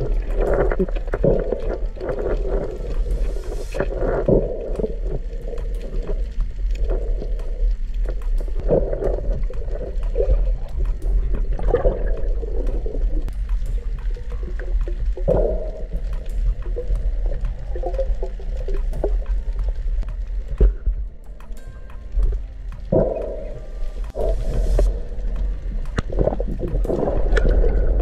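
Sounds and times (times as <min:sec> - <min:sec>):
low rumble: 0:00.0 - 0:28.0
underwater gurgling: 0:00.0 - 0:28.0.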